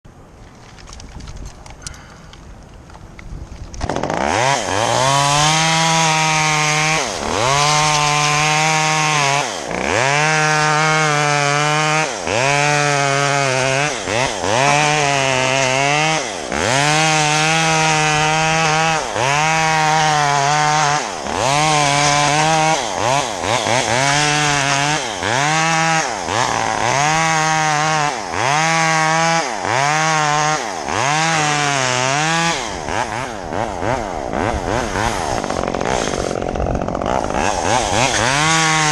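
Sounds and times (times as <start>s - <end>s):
chainsaw running at high revs: 3.8s - 38.9s.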